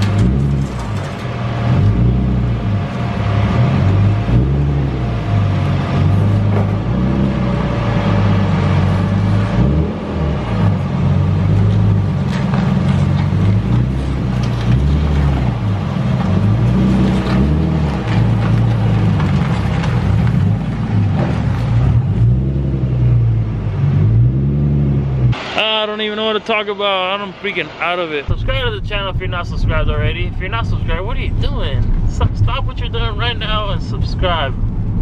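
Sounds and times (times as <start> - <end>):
vehicle engine hum rising and falling: 0.0 - 25.6, 27.7 - 35.0.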